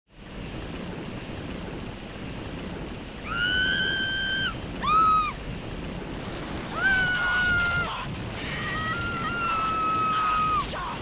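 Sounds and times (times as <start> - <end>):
rushing wind: 0.1 - 11.0.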